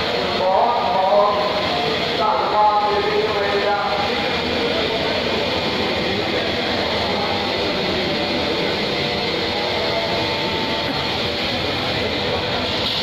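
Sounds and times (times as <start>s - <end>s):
machinery hum: 0.0s - 13.0s
murmur of voices: 0.0s - 13.0s.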